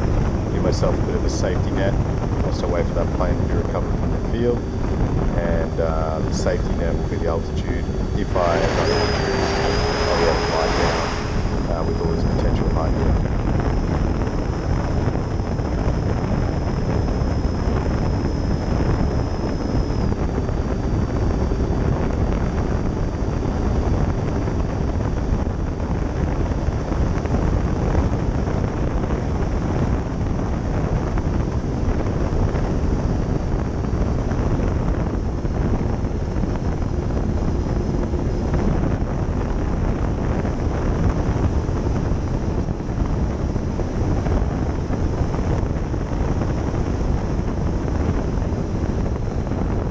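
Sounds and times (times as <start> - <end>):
electric ducted fans whine: 0.0 - 49.9
wind rush on microphone: 0.0 - 49.9.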